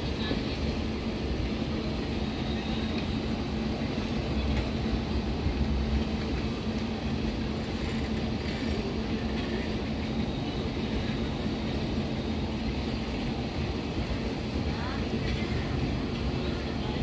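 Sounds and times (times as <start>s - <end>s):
constant low hum: 0.0s - 17.0s
train coaches rumbling on track: 0.0s - 17.0s.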